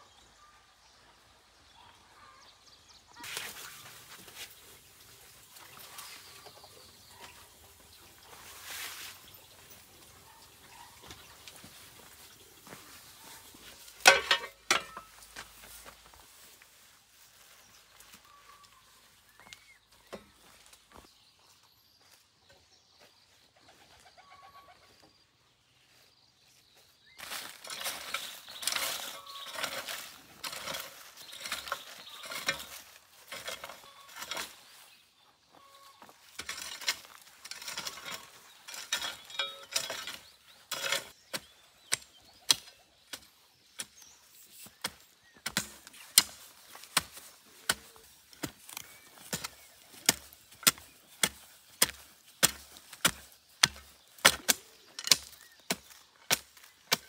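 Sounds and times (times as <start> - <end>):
faint birdsong: 0.0 - 57.0.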